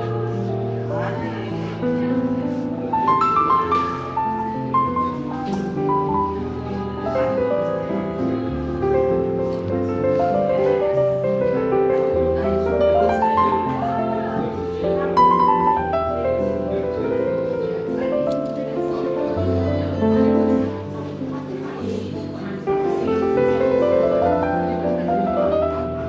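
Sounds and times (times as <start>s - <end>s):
smooth jazz piano: 0.0s - 26.0s.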